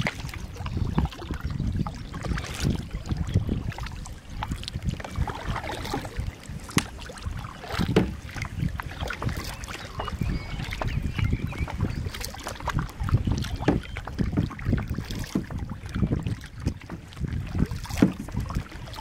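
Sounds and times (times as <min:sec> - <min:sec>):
paddle splashing in water: 0:00.0 - 0:19.0
wind buffeting microphone: 0:00.0 - 0:19.0.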